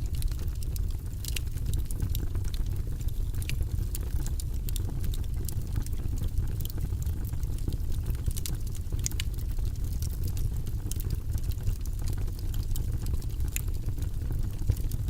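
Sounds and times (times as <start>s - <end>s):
fire flames rumbling: 0.0s - 15.0s
logs crackling and popping: 0.0s - 15.0s.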